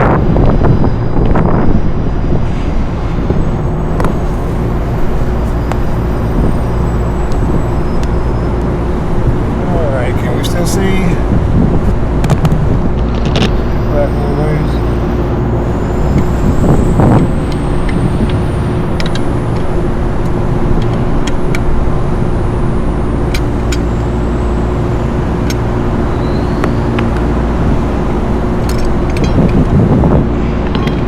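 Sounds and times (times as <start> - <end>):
machinery humming: 0.0 - 31.0.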